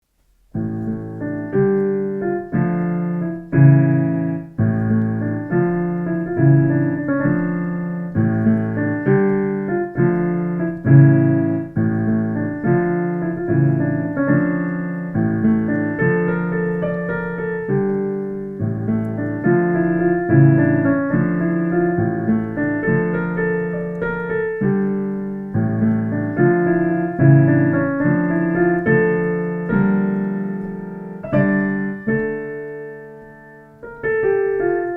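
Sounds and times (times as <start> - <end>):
solo piano piece: 0.0 - 34.9.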